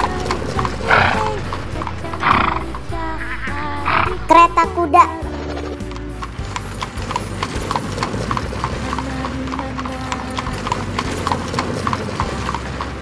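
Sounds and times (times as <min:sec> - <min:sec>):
horse hooves clip-clopping: 0:00.0 - 0:04.2, 0:05.2 - 0:13.0.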